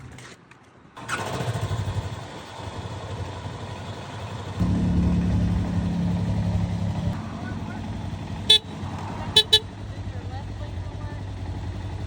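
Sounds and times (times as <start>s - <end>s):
motorcycle engine idling: 1.5s - 12.0s.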